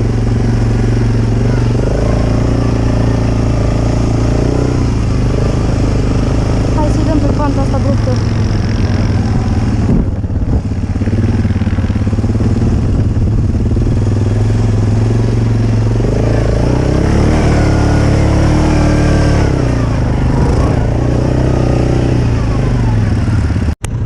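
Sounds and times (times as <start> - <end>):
atv engine revving under load: 0.0 - 24.0.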